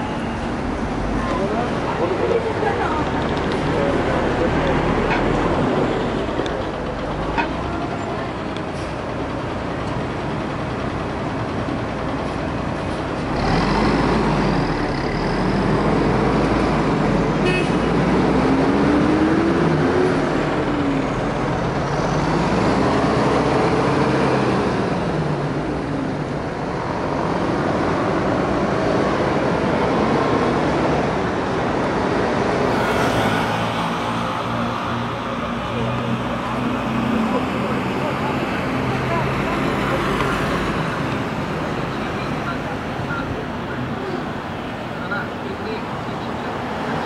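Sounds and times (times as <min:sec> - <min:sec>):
bus engine accelerating: 0:00.0 - 0:47.0
street traffic: 0:00.0 - 0:47.0.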